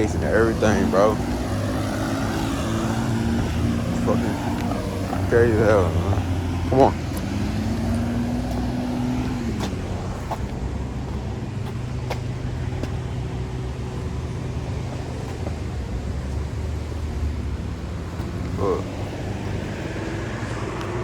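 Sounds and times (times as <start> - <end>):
car engine humming: 0.0 - 21.0
passing vehicle: 0.0 - 21.0.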